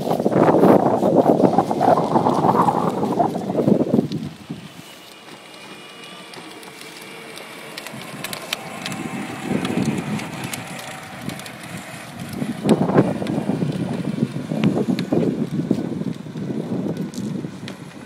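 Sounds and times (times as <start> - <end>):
electric toy car motors: 0.0 - 18.0
plastic wheels rolling: 0.0 - 18.0.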